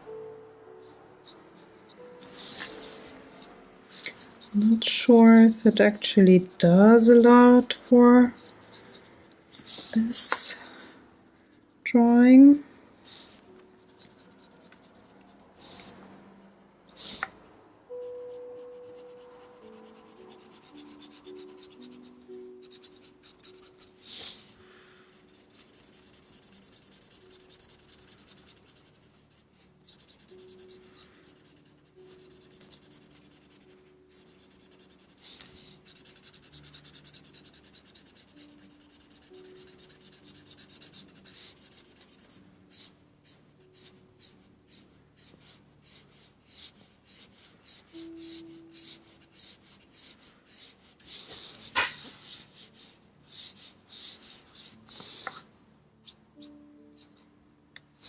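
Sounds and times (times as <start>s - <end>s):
marker rubbing on paper: 1.2s - 10.5s, 13.0s - 15.9s, 18.7s - 24.5s, 25.2s - 55.4s.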